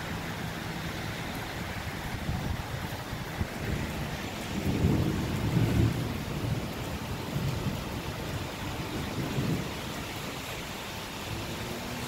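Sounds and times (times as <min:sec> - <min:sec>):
rain on pavement: 0:00.0 - 0:12.0.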